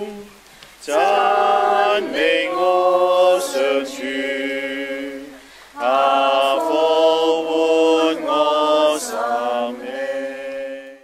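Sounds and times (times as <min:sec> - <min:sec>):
slow religious chant: 0:00.0 - 0:11.0.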